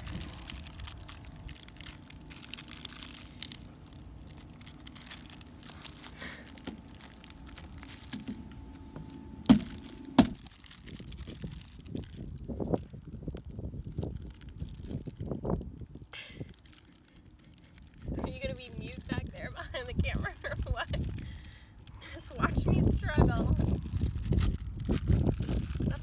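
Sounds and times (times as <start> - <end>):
frozen fish cracking apart: 0.0 - 8.5, 9.4 - 22.1, 23.6 - 26.0
plastic bag crinkling: 0.0 - 26.0.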